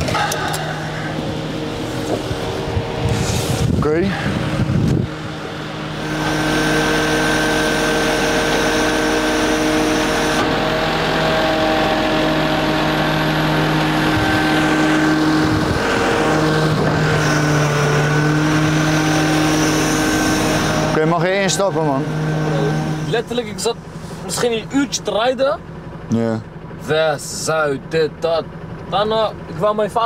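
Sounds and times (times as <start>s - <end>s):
road noise: 0.0s - 30.0s
truck engine drone: 0.0s - 30.0s.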